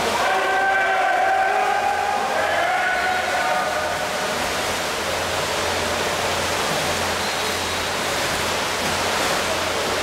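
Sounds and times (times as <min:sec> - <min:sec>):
pool water and hall echo: 0:00.0 - 0:10.0.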